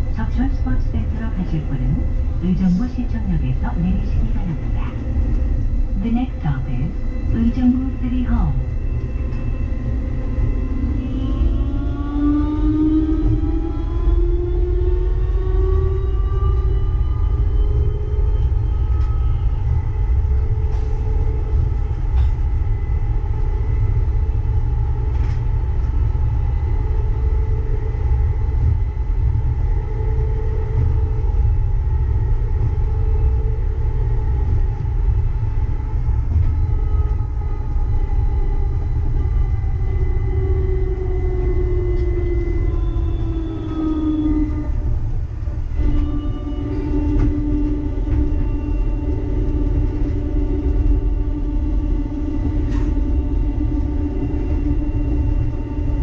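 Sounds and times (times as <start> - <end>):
train drive whine: 0.0 - 56.0
train low rumble: 0.0 - 56.0.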